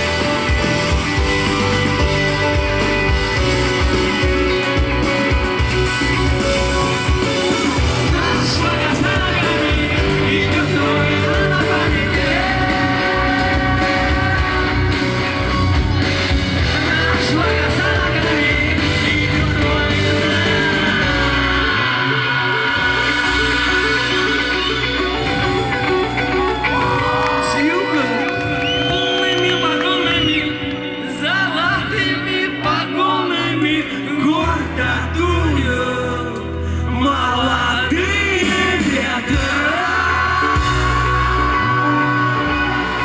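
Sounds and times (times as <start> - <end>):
drums: 0.0 - 43.0
electric guitars: 0.0 - 43.0
person singing: 0.0 - 43.0.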